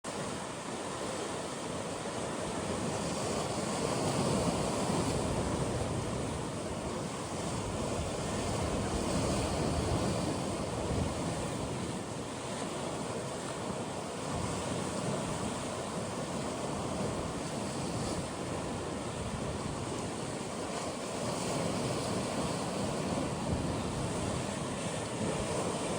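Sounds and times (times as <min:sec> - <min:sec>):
waves washing among rocks: 0:00.2 - 0:25.9
wind rumble on microphone: 0:02.2 - 0:25.9.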